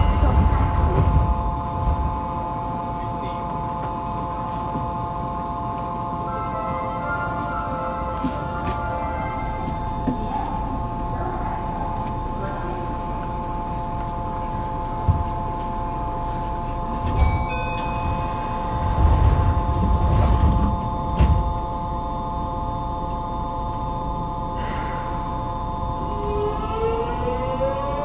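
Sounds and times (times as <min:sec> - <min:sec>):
train electrical hum: 0:00.0 - 0:28.0
train rumble: 0:00.0 - 0:28.0.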